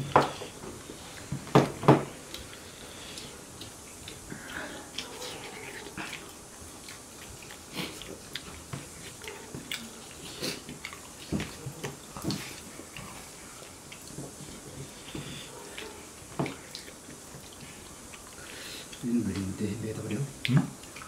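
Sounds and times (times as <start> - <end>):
man chewing with wet smacks: 0.0 - 21.0.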